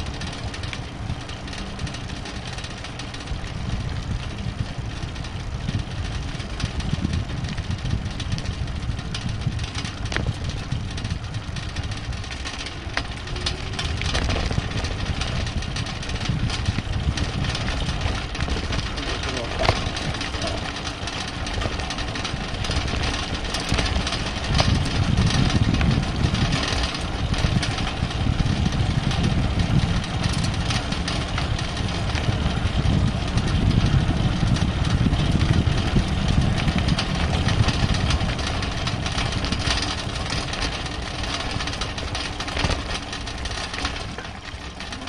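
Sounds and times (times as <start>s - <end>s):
bicycle tyres rolling on asphalt: 0.0s - 45.0s
small clicks and rattles: 0.0s - 45.0s
wind buffeting microphone: 0.0s - 45.0s.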